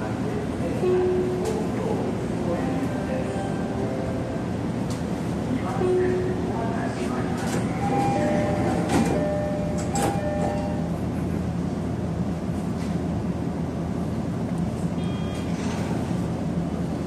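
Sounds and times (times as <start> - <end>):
train interior rumble: 0.0 - 17.0.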